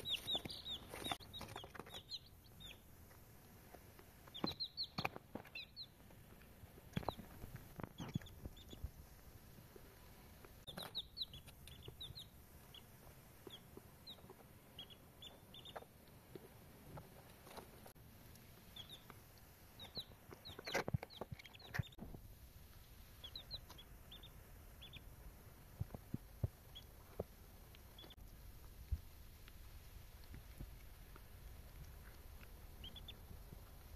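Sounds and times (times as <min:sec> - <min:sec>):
chicks peeping: 0:00.0 - 0:29.0, 0:30.0 - 0:33.9.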